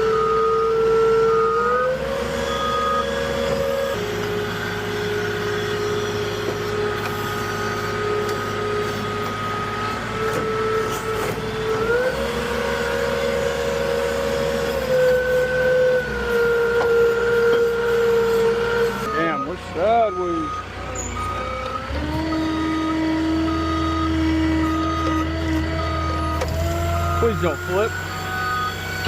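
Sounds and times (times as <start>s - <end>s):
forklift mechanical whine: 0.0s - 29.0s.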